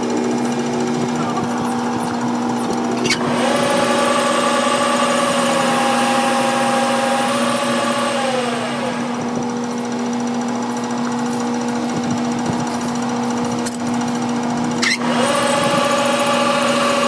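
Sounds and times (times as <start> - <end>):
machine motor whining: 0.0 - 17.0.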